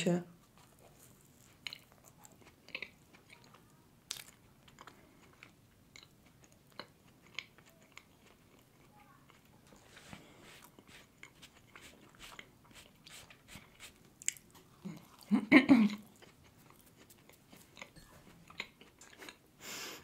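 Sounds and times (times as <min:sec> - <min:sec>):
chewing with wet mouth clicks: 0:00.4 - 0:09.8, 0:10.7 - 0:15.3, 0:15.9 - 0:19.4.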